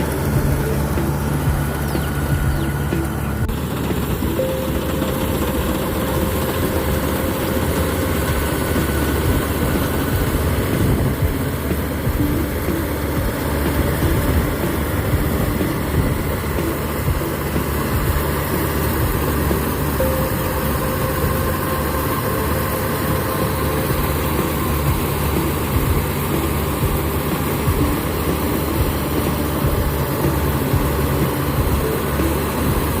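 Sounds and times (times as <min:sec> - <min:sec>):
combine harvester diesel engine: 0:00.0 - 0:33.0
thin steady whine: 0:00.0 - 0:33.0.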